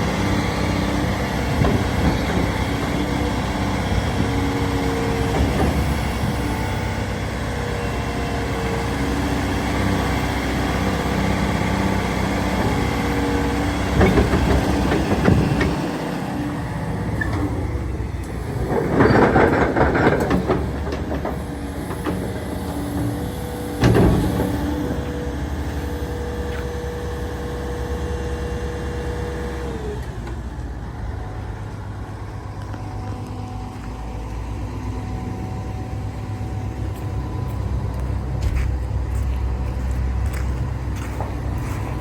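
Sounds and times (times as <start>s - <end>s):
excavator diesel engine droning: 0.0s - 42.0s.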